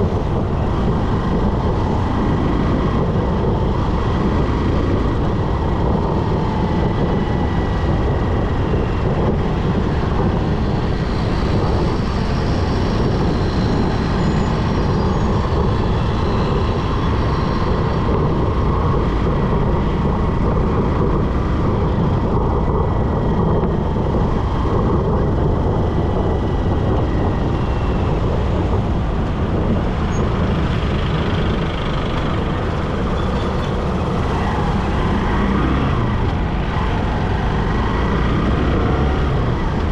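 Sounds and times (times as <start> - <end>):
motorbike road and wind noise: 0.0 - 39.9
vehicles passing: 0.0 - 39.9.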